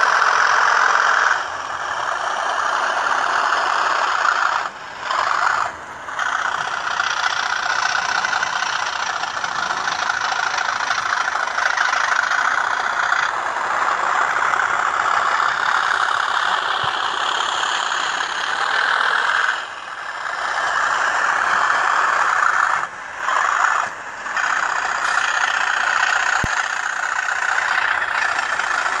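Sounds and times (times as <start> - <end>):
diesel engine sound through tiny speaker: 0.0 - 29.0.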